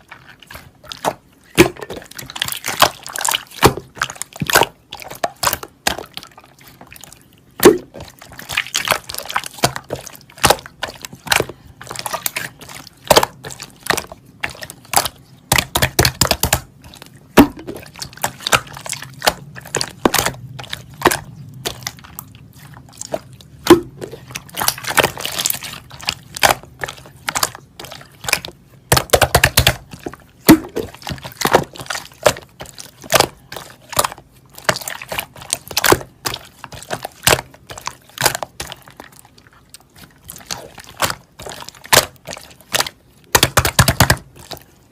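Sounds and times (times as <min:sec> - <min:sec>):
liquid sloshing and dripping: 0:00.0 - 0:44.9
wet clicks and squishes: 0:00.0 - 0:44.9.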